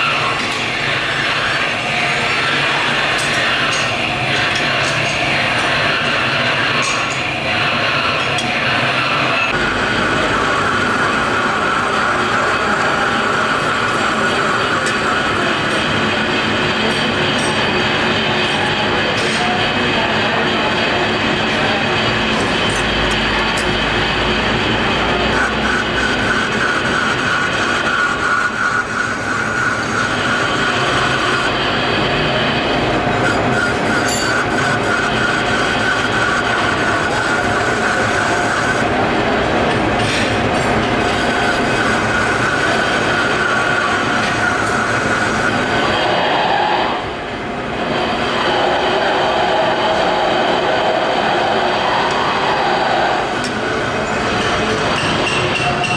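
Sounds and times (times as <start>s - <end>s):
metal lathe cutting steel: 0.0s - 55.9s.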